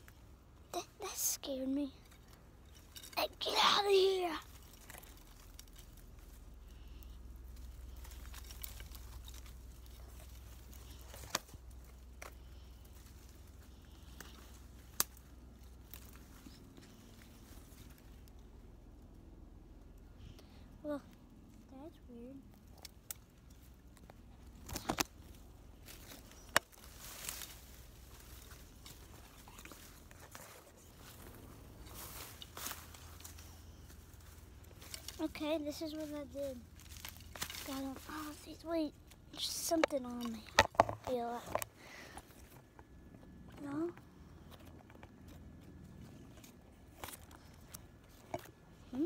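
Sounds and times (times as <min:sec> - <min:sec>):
footsteps through dry sticks: 0:01.0 - 0:18.6, 0:22.6 - 0:49.0.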